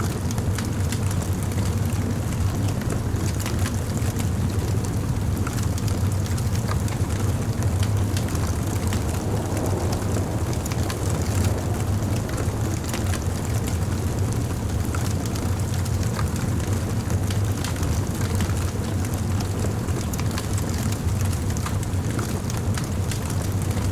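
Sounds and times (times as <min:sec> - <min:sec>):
wood fire crackling: 0:00.1 - 0:23.9.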